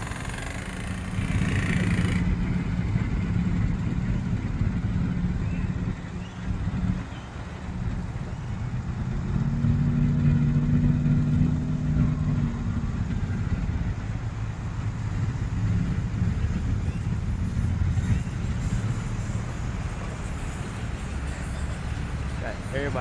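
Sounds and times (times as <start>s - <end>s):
passing vehicle engine: 0.0s - 23.0s
steady traffic noise: 0.0s - 23.0s.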